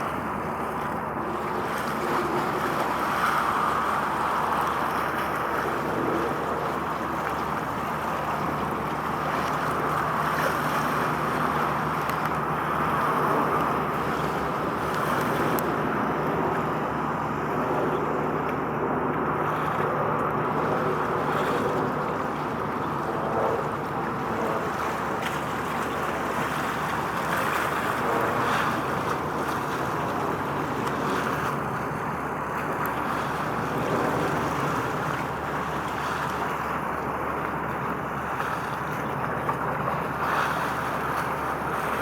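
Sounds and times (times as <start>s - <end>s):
water noise: 0.0s - 42.0s
wind: 0.0s - 42.0s.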